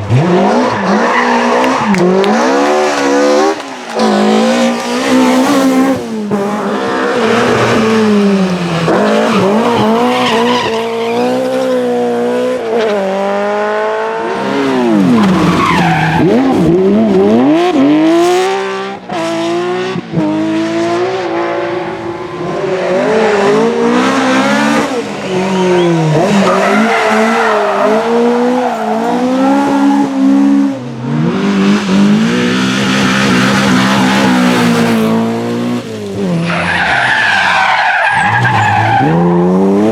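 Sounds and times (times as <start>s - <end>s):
tyres skidding: 0.0s - 12.9s, 14.3s - 18.4s, 21.4s - 39.9s
rally car engines revving: 0.0s - 39.9s.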